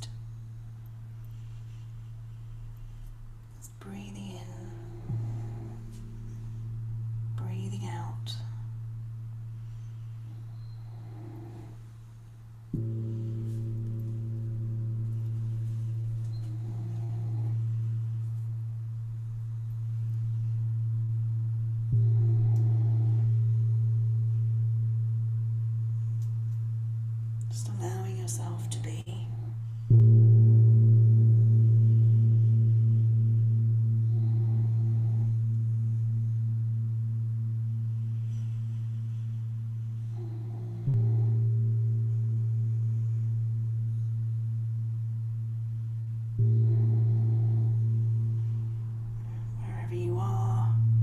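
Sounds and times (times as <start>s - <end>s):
singing bowl deep tone: 0.0s - 51.0s.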